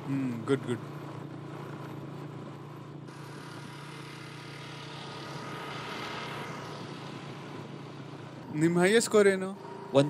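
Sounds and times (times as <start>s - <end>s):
road and wind noise: 0.0s - 10.0s
scooter engine humming: 0.0s - 10.0s.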